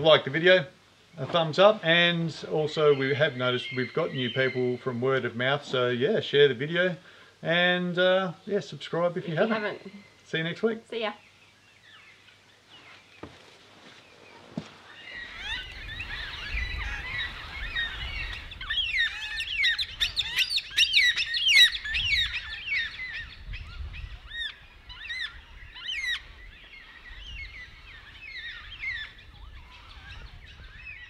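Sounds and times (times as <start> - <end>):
flock of birds chirping: 0.0 - 31.0.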